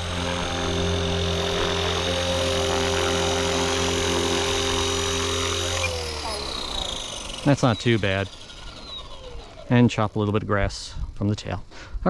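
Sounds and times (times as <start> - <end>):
rc helicopter motor and rotors: 0.0 - 11.7.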